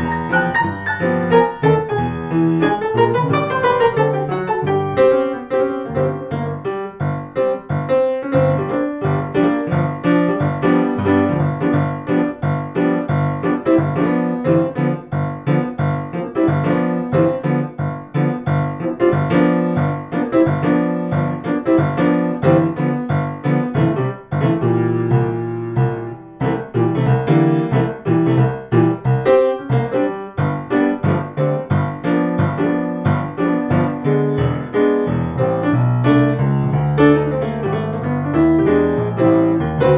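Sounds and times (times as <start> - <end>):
blues piano music: 0.0 - 39.9.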